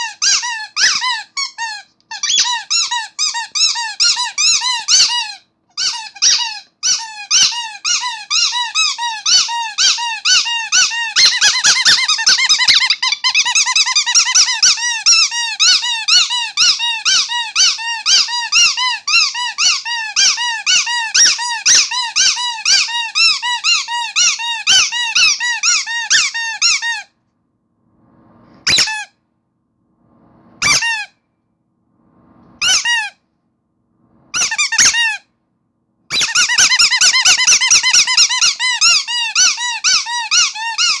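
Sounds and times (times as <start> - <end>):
squeaky toy squeaking: 0.0 - 27.2, 28.6 - 29.2, 30.6 - 31.2, 32.6 - 33.2, 34.3 - 35.3, 36.1 - 41.0.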